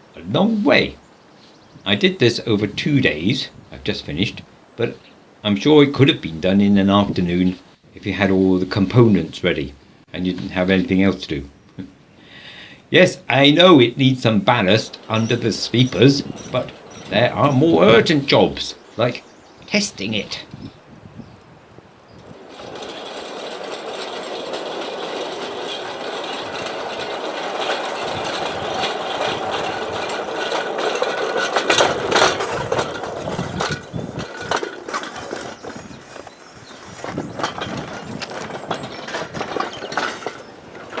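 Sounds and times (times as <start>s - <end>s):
rail vehicle wheels rattling: 0.0s - 20.7s, 22.2s - 41.0s.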